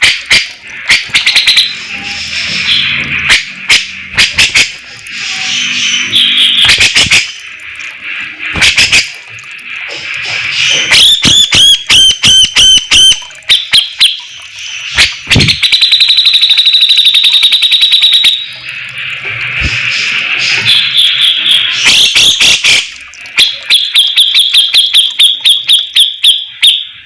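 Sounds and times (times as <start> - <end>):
bulbul singing: 0.0 - 9.2, 10.5 - 27.0.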